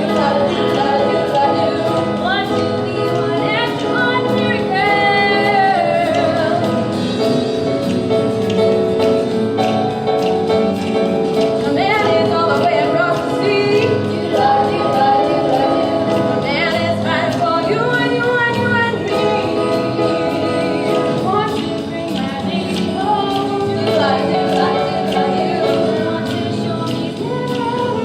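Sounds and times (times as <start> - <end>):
voices singing: 0.0 - 7.0, 11.6 - 28.0
instrumental accompaniment with beat: 0.0 - 28.0.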